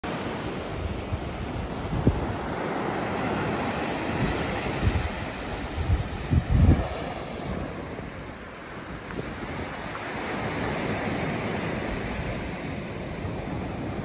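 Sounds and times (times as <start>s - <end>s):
surf breaking on beach: 0.0s - 14.0s
wind buffeting microphone: 0.1s - 14.0s.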